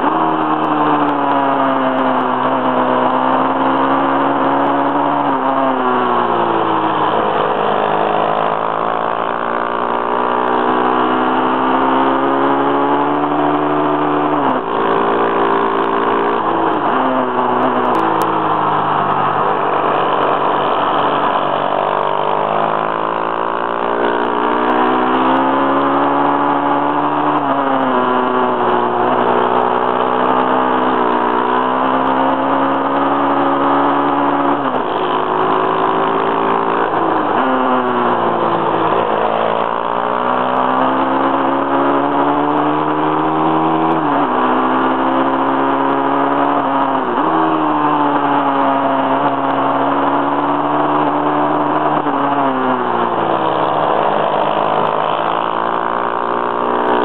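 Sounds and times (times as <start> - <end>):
small motorcycle engine revving: 0.0 - 57.0.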